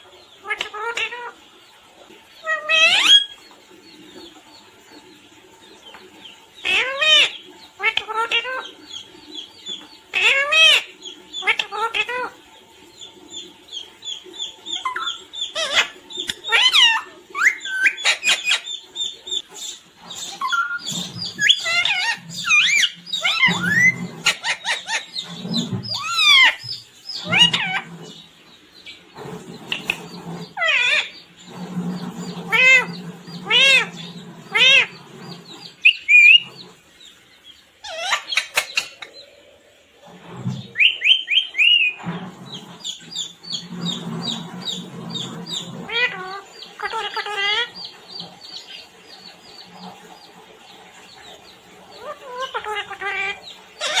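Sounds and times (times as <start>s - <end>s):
parrot squawking and chirping: 0.4s - 1.4s, 2.3s - 3.5s, 6.6s - 39.3s, 40.1s - 54.0s.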